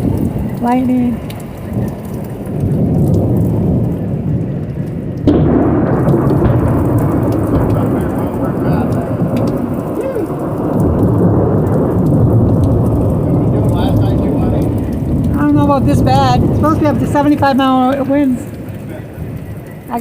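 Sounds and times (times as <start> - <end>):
heavy rain falling: 0.0 - 20.0
thunder clap and rumble: 0.0 - 20.0.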